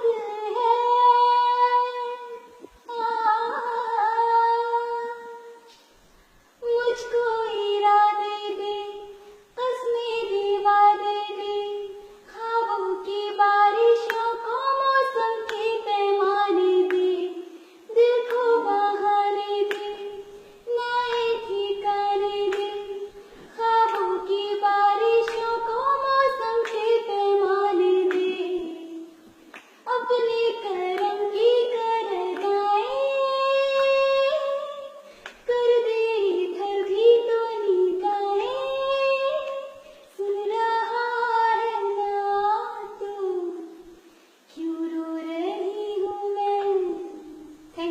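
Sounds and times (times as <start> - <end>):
high voice singing unaccompanied: 0.0 - 5.8, 6.6 - 43.9, 44.5 - 47.9.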